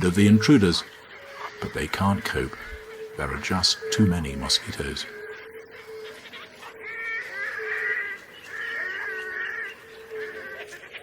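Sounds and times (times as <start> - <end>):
bird chicks calling: 0.0 - 11.0
mosquitoes whining: 0.0 - 11.0.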